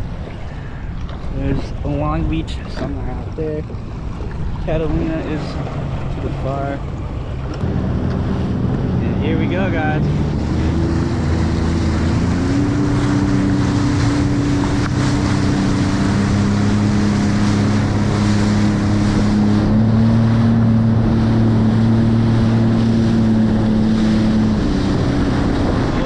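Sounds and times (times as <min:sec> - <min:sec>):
jet ski engine droning: 0:00.0 - 0:26.0
rushing water and spray: 0:00.0 - 0:26.0
wind buffeting microphone: 0:00.0 - 0:26.0.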